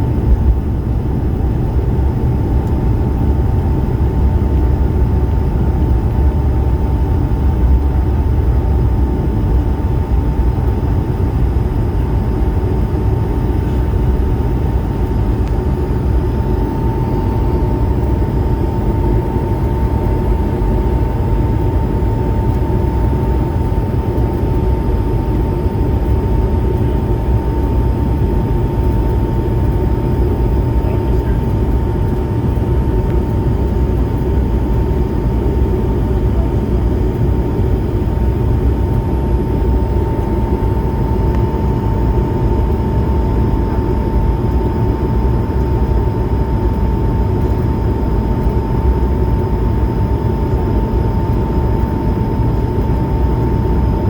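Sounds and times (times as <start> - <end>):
jet engines rumbling with whine: 0.0 - 54.0.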